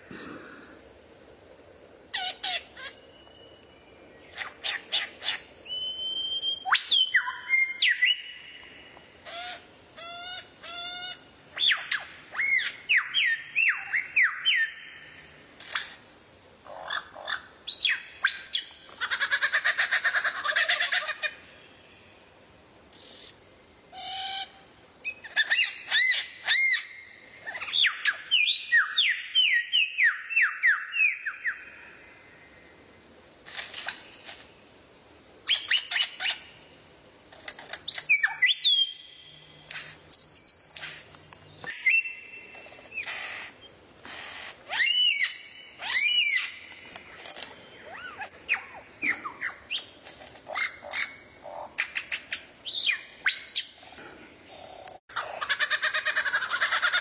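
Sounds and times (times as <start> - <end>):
songbird chirping: 0.0 - 43.9, 44.6 - 55.5.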